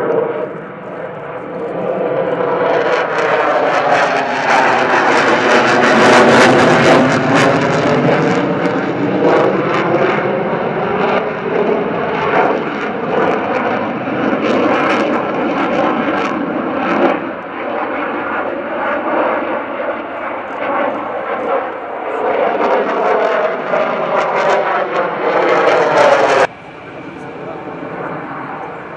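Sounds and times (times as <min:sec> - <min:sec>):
fighter jet engine roaring: 0:00.0 - 0:28.9.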